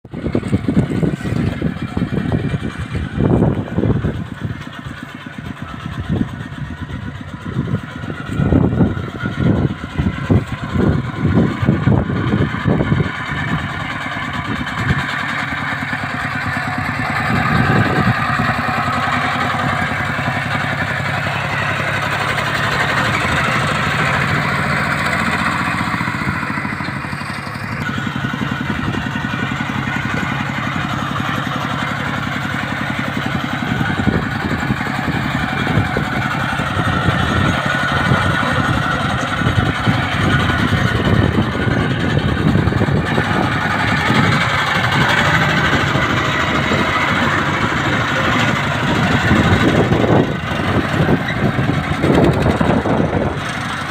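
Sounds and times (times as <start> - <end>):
bulldozer engine running: 0.0 - 53.9.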